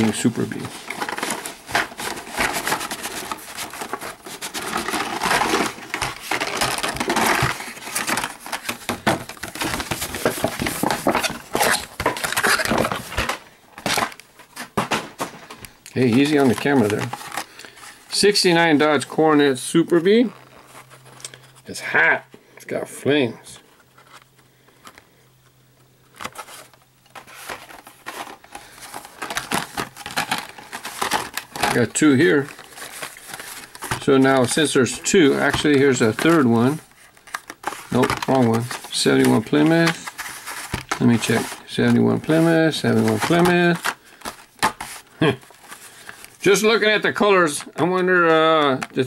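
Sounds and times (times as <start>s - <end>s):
plastic packs clicking: 0.0s - 17.8s, 26.0s - 49.0s
faint steady hum: 0.0s - 49.0s
plastic crinkling and card rustling: 0.0s - 49.0s.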